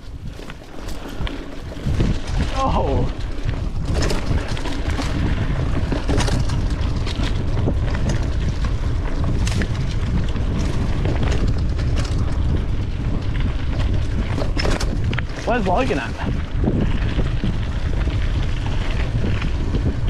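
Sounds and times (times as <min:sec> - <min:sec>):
bike clicks and clatters: 0:00.0 - 0:20.0
wind rumbling on microphone: 0:00.0 - 0:20.0.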